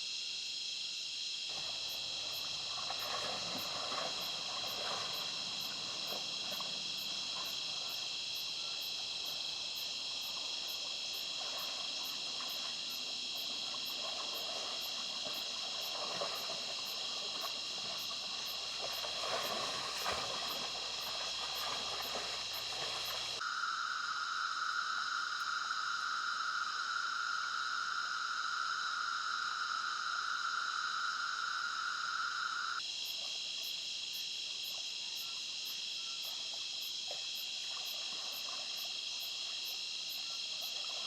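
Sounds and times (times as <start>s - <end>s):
crickets and insects chirring: 0.0s - 41.0s.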